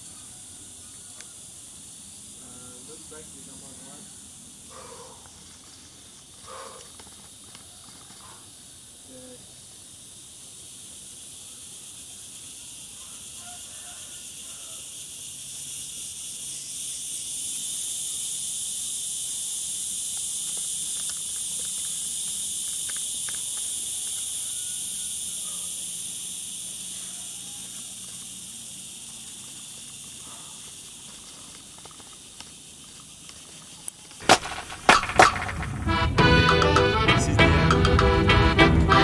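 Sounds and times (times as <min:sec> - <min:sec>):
insects buzzing: 0:00.0 - 0:39.0.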